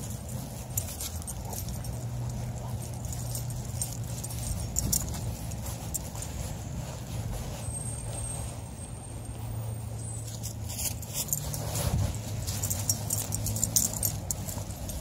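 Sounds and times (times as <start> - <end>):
dog collar jingling: 0.0 - 7.4, 10.0 - 15.0.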